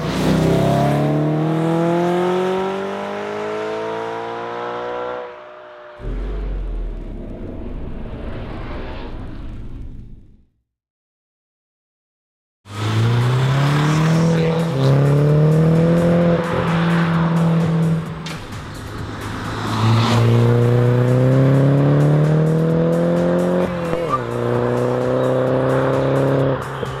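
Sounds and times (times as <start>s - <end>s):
car engine accelerating: 0.0s - 10.4s, 12.7s - 27.0s.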